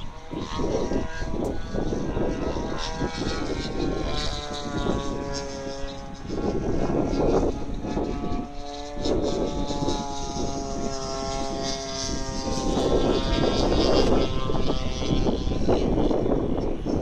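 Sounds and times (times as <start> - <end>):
droning hum: 0.0 - 17.0
wind gusting on microphone: 0.0 - 17.0.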